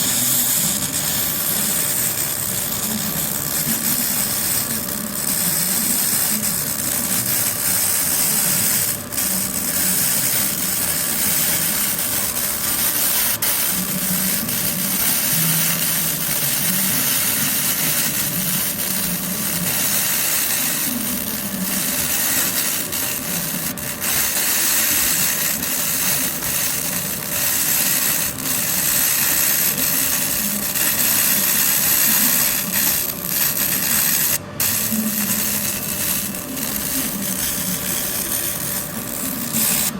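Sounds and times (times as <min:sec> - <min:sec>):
laser cleaner hissing: 0:00.0 - 0:39.9.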